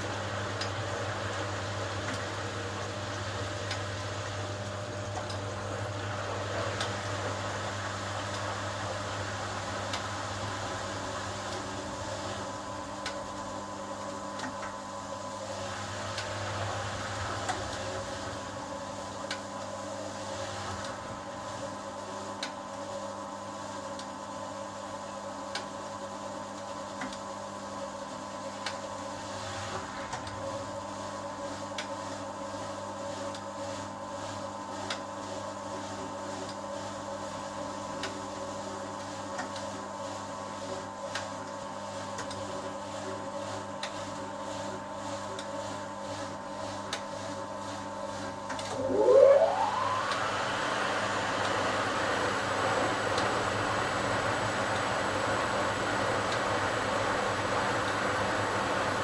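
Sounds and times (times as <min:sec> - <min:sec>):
washing machine motor hum: 0:00.0 - 0:23.8, 0:24.4 - 0:59.0.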